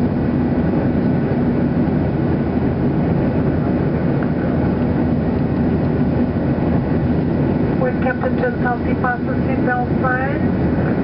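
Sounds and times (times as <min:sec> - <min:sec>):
airplane cabin engine and airflow noise: 0:00.0 - 0:11.0.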